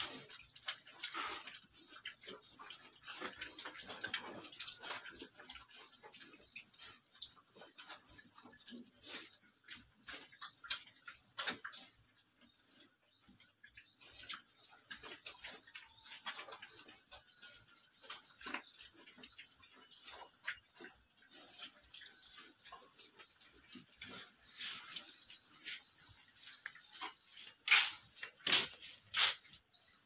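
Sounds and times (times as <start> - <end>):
pigs snuffling and grunting: 0.0 - 30.0.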